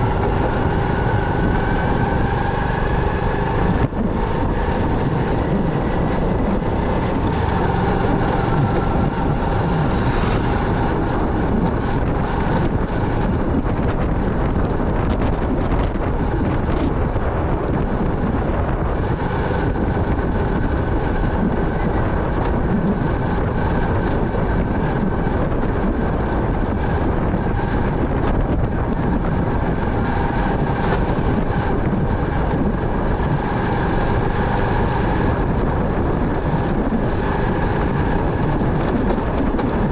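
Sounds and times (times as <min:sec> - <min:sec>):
motorcycle engine rumble: 0:00.0 - 0:39.9
road and wind noise: 0:00.0 - 0:39.9.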